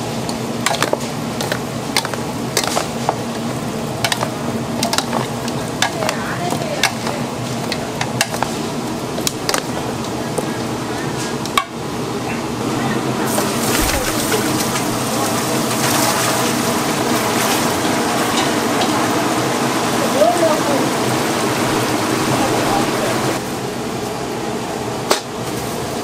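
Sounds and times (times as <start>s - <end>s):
chicken sizzling in hot oil: 0.0s - 12.2s, 13.0s - 24.2s, 25.3s - 26.0s.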